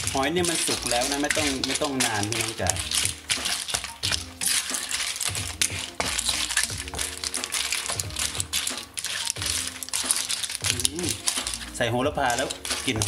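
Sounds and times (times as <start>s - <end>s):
clams clattering in a wok: 0.0s - 13.0s
hot pan hissing: 0.0s - 13.0s.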